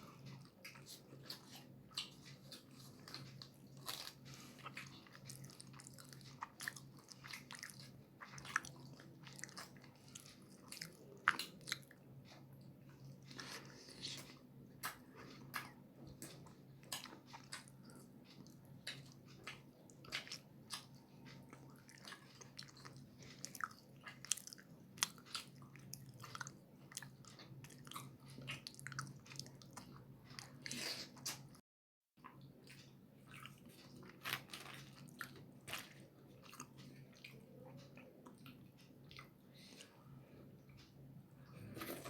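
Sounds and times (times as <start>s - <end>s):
person chewing food: 0.0s - 31.6s, 32.2s - 42.0s.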